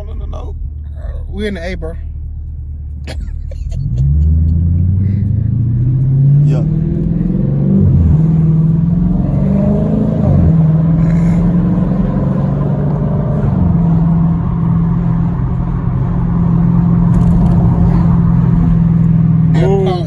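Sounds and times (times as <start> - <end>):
car exhaust droning: 0.0 - 20.0.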